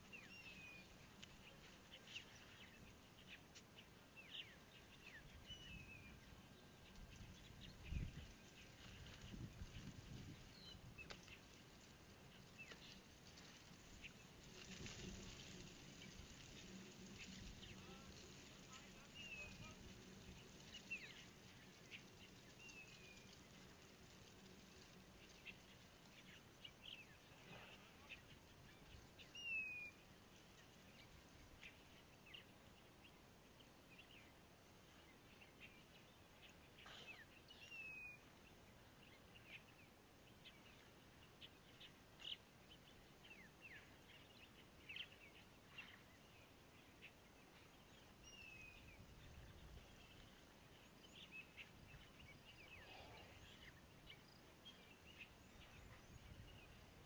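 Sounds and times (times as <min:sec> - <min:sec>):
faint bird chirps: 0:00.0 - 0:11.6, 0:14.0 - 0:57.0.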